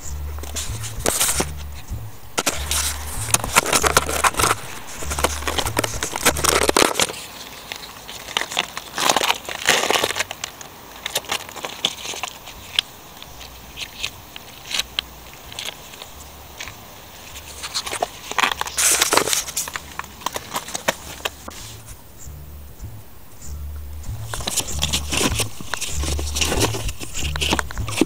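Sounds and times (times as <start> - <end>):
plastic filter frame crackling: 0.0 - 22.0, 24.1 - 28.0.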